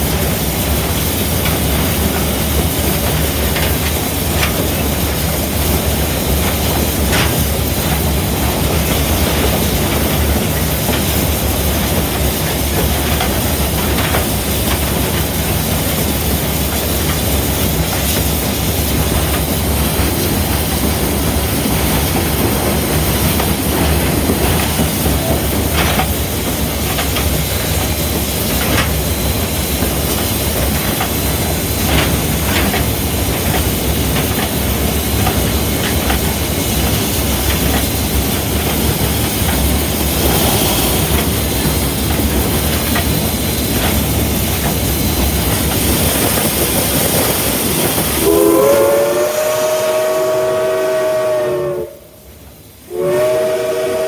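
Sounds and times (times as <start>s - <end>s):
steam locomotive rumble and hiss: 0.0s - 54.0s.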